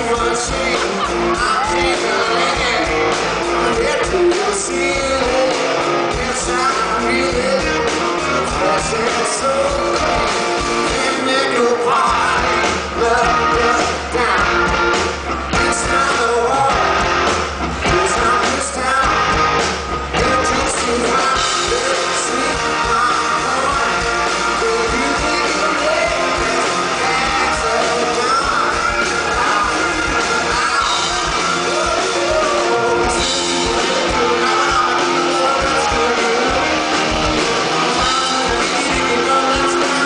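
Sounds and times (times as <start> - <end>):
live rock band playing: 0.0 - 40.0
man singing lead: 0.0 - 40.0.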